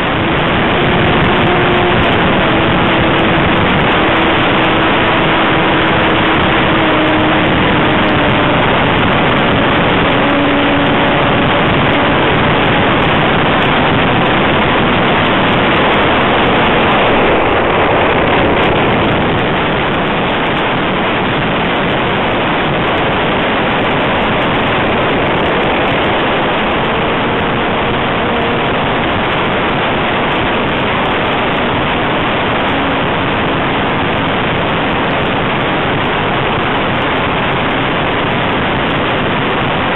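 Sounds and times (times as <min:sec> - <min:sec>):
propeller wash and wind rushing: 0:00.0 - 0:39.9.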